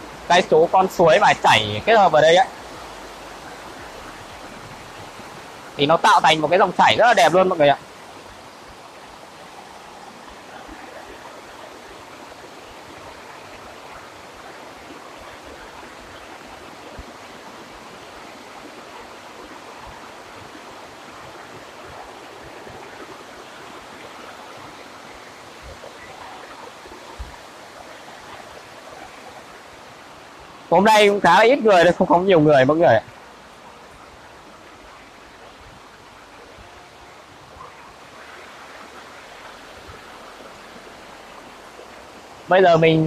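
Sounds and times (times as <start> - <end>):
waterfall rushing water: 0.0 - 43.0.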